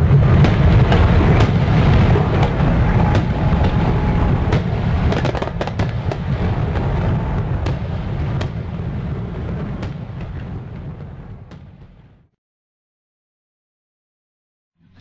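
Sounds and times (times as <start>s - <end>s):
fireworks bursting with crackles: 0.0s - 12.3s.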